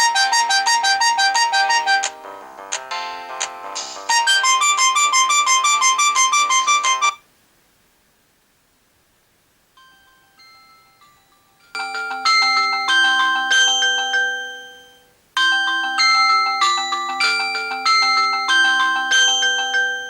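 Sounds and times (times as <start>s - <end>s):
phone alarm ringtone: 0.0s - 2.1s, 3.0s - 7.2s, 9.8s - 20.0s.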